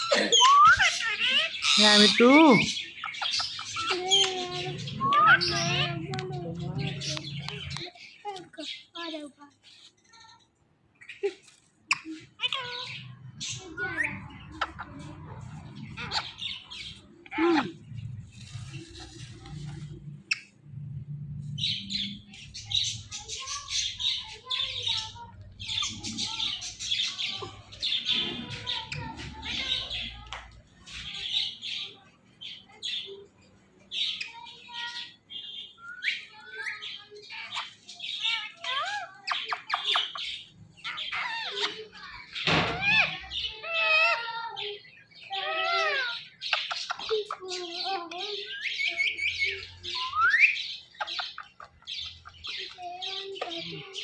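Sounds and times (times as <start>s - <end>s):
parrot chirping and chattering: 0.0s - 54.0s.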